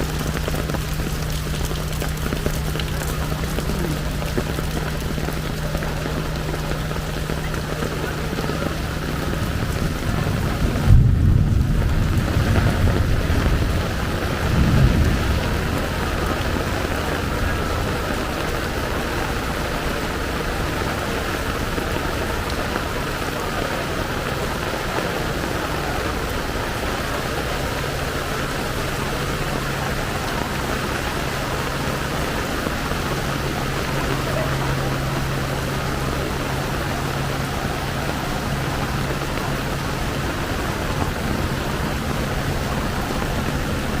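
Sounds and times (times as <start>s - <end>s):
heavy rain falling: 0.0s - 44.0s
vehicle engines humming: 0.0s - 44.0s.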